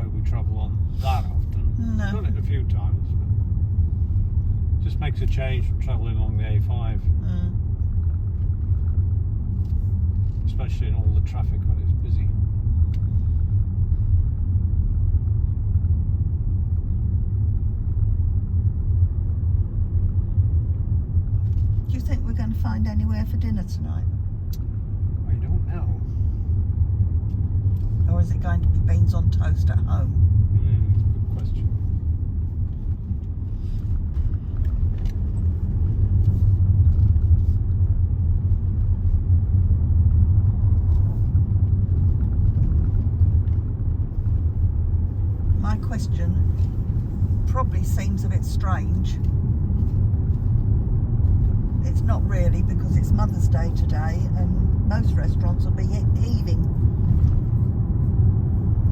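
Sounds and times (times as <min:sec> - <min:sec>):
car cabin road and engine rumble: 0:00.0 - 0:58.9.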